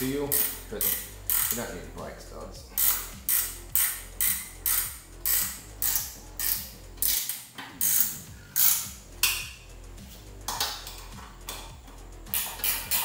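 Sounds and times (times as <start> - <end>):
ratchet wrench clicking: 0.0 - 1.7, 2.7 - 9.6, 10.5 - 13.0.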